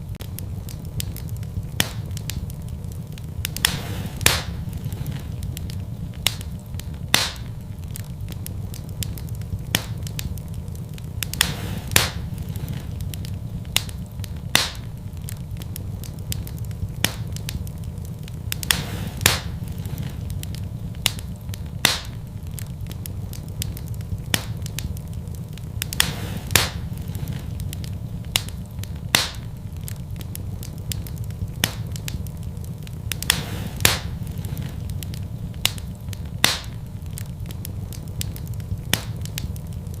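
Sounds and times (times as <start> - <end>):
low fire rumble: 0.0 - 40.0
wood fire crackling: 0.0 - 40.0.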